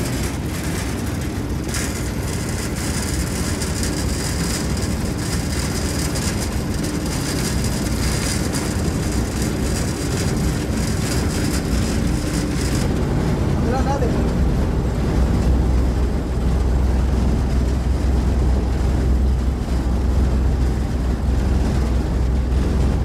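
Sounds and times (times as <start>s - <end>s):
cable car rushing rumble: 0.0s - 23.0s.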